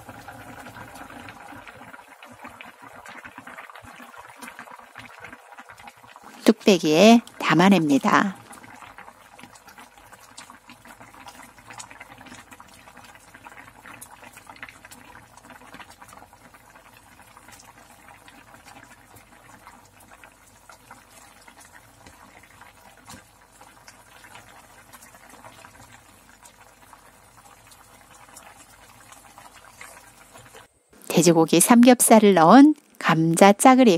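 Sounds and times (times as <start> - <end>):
stew sloshing and bubbling: 0.0 - 6.5, 8.2 - 30.7.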